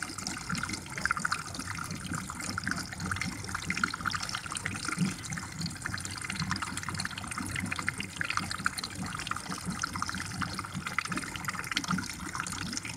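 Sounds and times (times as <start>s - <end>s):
water trickling and bubbling: 0.0s - 12.9s.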